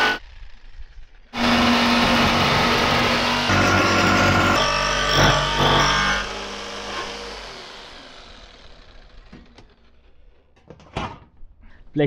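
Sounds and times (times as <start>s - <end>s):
electric jigsaw cutting sheet metal: 0.0s - 10.3s.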